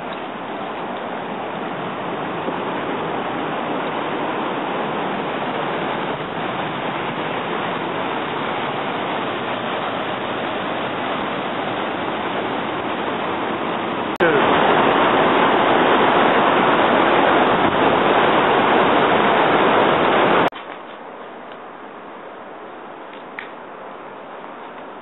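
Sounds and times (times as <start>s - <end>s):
river rushing over boulders: 0.0s - 25.0s.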